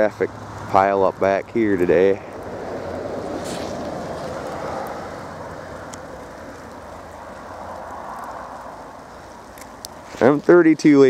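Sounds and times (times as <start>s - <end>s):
low road rumble: 0.0s - 11.0s
tyres hissing over wet snow: 0.0s - 11.0s.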